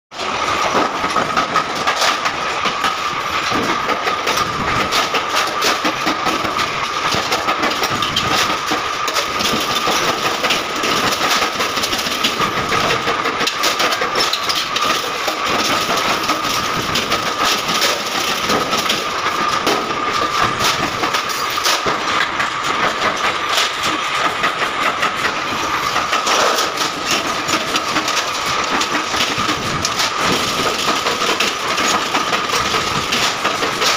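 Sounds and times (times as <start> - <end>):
metallic clanks and clicks: 0.2 - 33.9.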